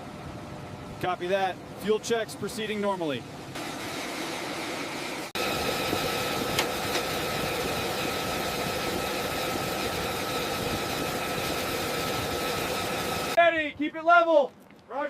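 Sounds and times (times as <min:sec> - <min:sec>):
engine droning with whine: 0:00.0 - 0:13.4.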